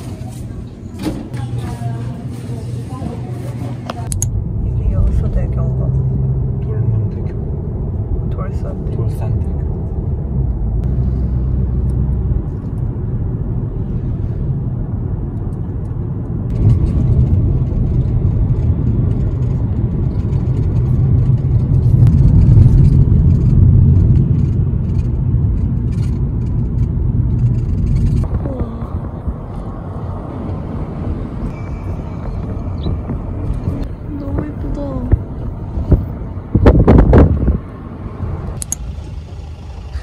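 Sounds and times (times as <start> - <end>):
car road and wind rumble: 0.0 - 40.0.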